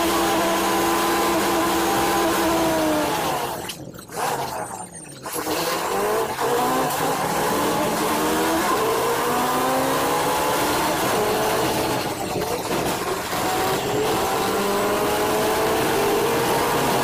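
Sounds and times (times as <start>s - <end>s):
bus engine whine accelerating: 0.0s - 3.7s, 5.4s - 17.0s
road noise: 0.0s - 17.0s.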